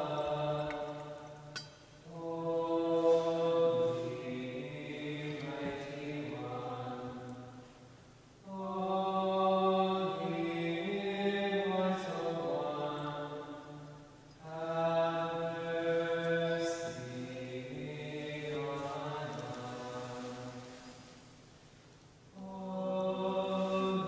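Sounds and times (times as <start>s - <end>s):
voices singing a slow hymn: 0.0s - 24.0s.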